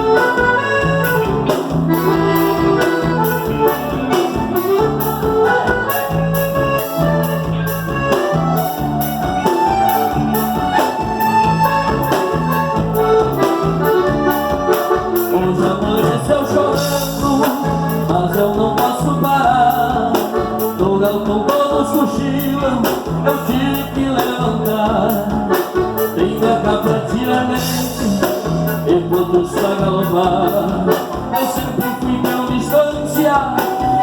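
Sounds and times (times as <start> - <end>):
accordion-led band playing: 0.0 - 34.0.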